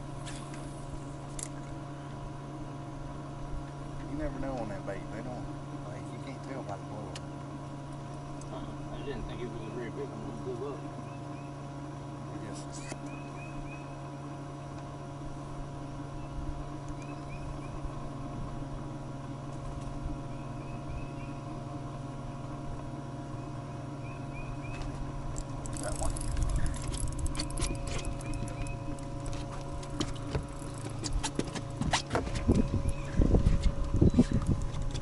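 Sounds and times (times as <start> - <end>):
electric boat motor humming: 0.0 - 35.0.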